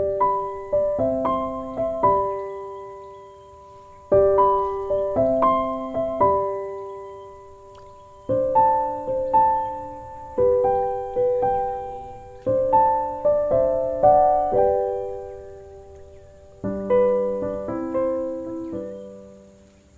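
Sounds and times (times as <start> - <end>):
slow piano music: 0.0 - 19.9.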